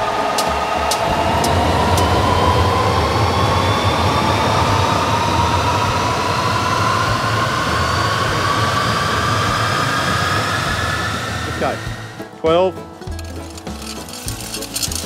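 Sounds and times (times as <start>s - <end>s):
loud rush of air: 0.0s - 12.4s
low hum: 0.0s - 12.4s
turbojet whine rising in pitch: 0.0s - 12.4s.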